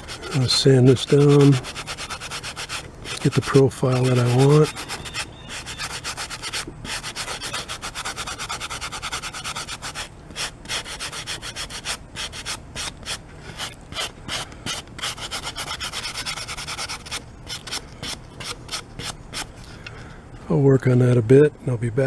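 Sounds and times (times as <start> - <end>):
hand sanding strokes: 0.0 - 19.6.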